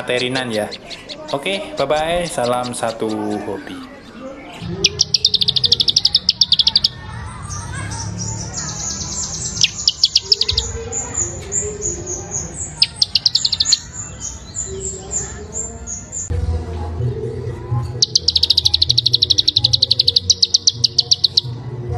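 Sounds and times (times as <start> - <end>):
songbird trilling and chirping: 0.0 - 16.3, 18.0 - 21.5.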